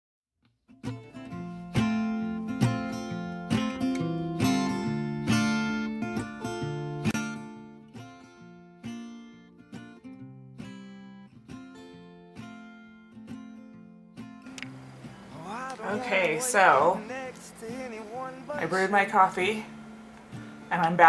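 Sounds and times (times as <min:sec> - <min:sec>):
acoustic guitar strumming: 0:00.8 - 0:21.0.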